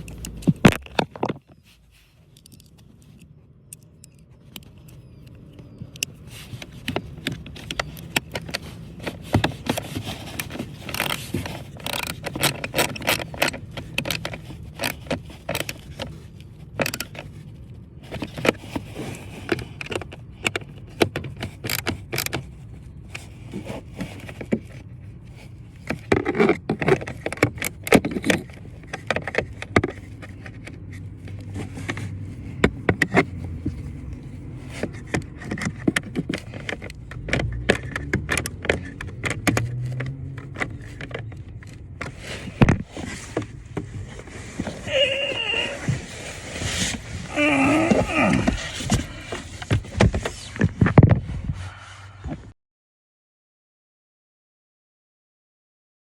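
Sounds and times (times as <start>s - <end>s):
tools clicking and scraping: 0.0s - 51.1s.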